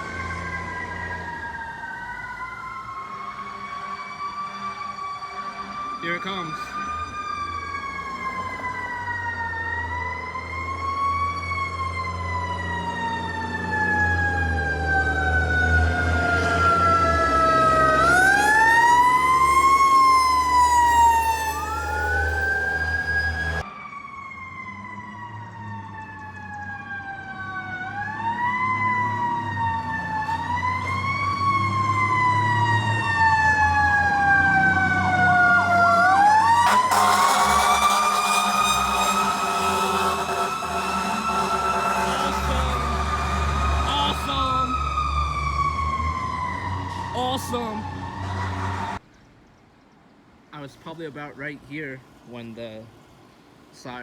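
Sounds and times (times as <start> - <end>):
fire truck sirens wailing: 0.0 - 49.0
fire truck engine rumbling: 0.0 - 49.1.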